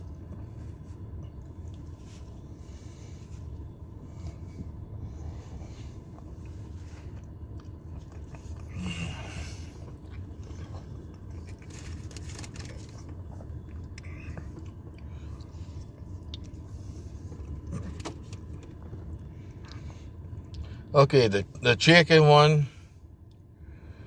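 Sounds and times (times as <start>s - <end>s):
person chewing food: 0.0s - 20.7s
steady low hum: 0.0s - 24.0s.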